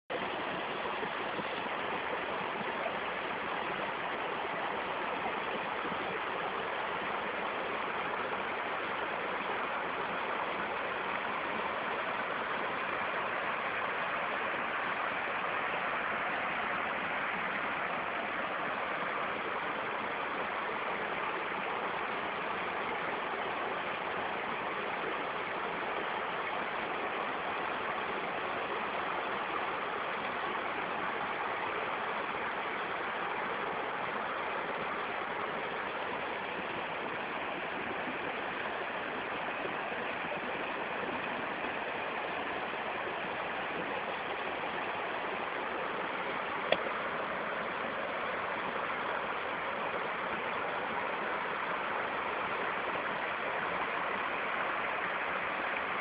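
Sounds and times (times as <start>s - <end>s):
stream flowing: 0.1s - 56.0s.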